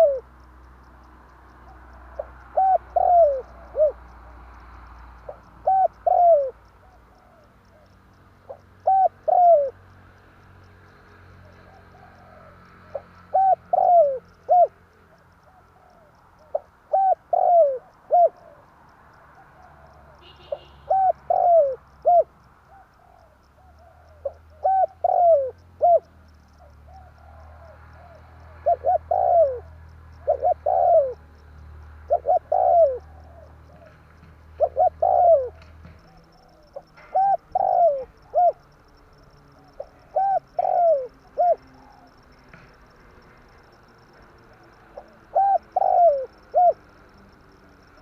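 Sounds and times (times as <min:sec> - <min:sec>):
dove cooing: 0:00.0 - 0:00.4, 0:01.6 - 0:10.1, 0:11.4 - 0:48.0.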